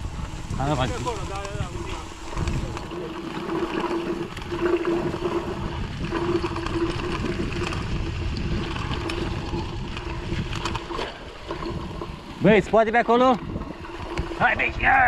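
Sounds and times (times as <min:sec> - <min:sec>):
bike frame rattling: 0:00.0 - 0:15.0
bike tyres rumbling: 0:00.0 - 0:15.0
steady whine: 0:00.0 - 0:15.0
wind noise on microphone: 0:00.0 - 0:15.0.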